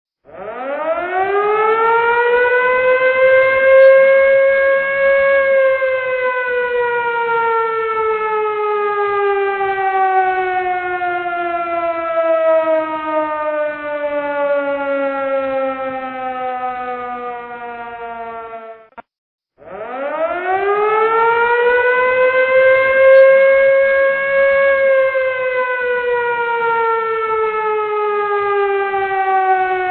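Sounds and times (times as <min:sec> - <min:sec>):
police car siren wailing: 0:00.3 - 0:19.0, 0:19.6 - 0:29.9.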